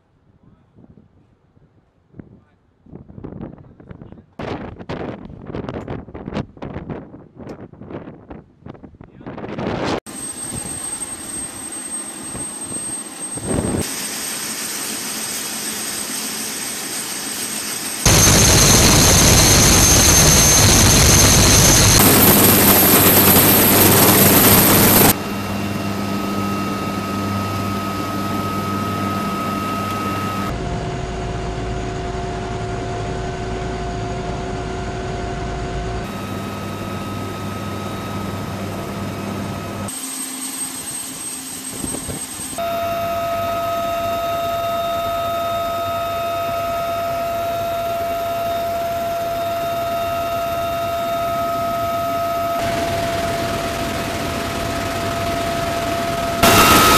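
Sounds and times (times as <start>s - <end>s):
helicopter drone: 10.1s - 56.9s
helicopter turbine whine: 10.1s - 56.9s.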